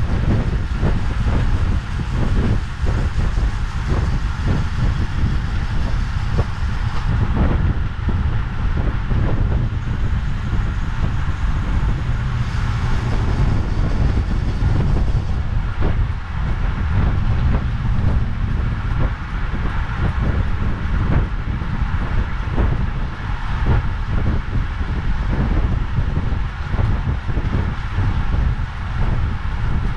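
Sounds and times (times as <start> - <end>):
tyre noise on asphalt: 0.0 - 29.9
wind buffeting microphone: 0.0 - 29.9.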